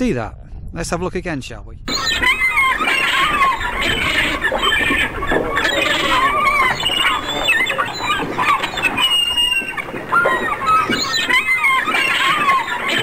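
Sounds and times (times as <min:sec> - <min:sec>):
animal squeals and chirps: 0:01.9 - 0:13.0.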